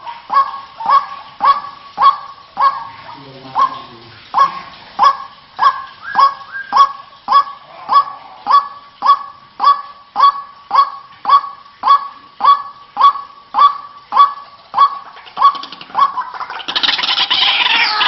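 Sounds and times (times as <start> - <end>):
waterhen harsh calls: 0.0 - 18.0.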